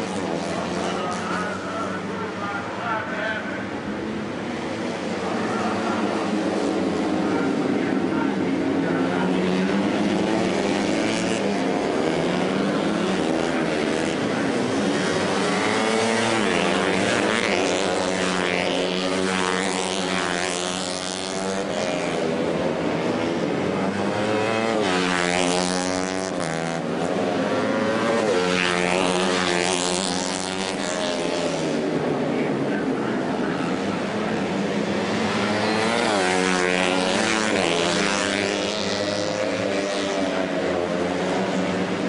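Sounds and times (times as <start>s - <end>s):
racing motorcycles revving past: 0.0s - 2.8s, 3.6s - 42.0s.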